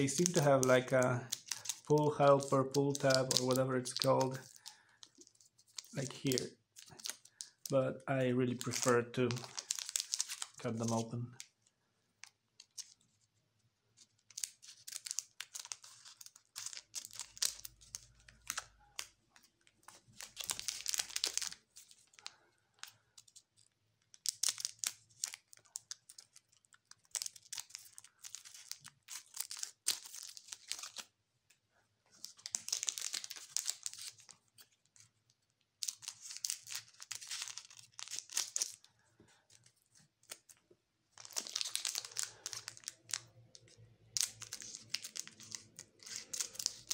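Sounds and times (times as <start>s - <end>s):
foil crinkling: 0.0s - 7.8s, 8.4s - 11.2s, 14.1s - 23.4s, 24.1s - 31.1s, 32.2s - 35.1s, 35.8s - 40.6s, 41.2s - 46.9s.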